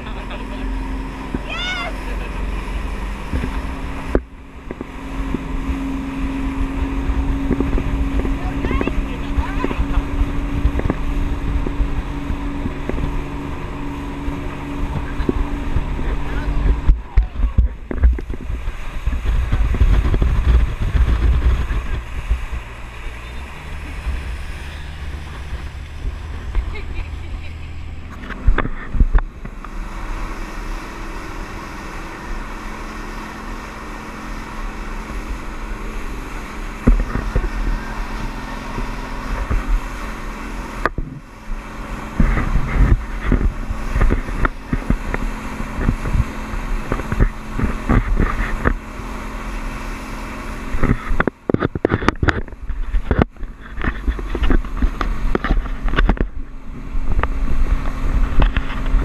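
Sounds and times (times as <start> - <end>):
boat engine drone: 0.0 - 59.0
hull pounding waves: 0.0 - 59.0
wind buffeting microphone: 2.2 - 59.0.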